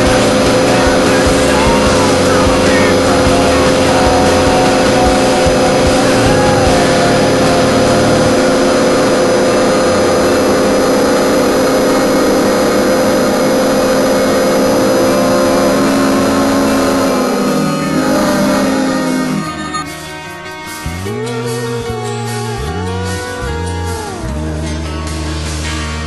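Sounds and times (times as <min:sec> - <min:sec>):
held even tone: 0:00.0 - 0:26.0
machinery humming and hissing: 0:00.0 - 0:26.0.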